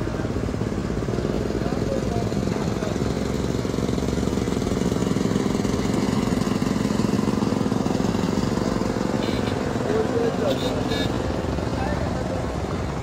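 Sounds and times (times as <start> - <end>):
engine chugging steadily: 0.0 - 13.0.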